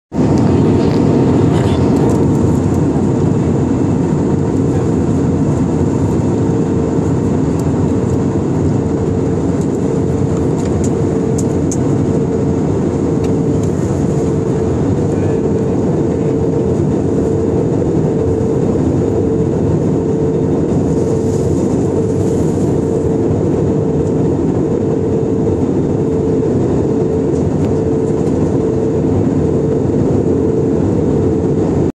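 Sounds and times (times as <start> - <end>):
airliner cabin roar: 0.1 - 31.9
steady hum: 0.2 - 31.9.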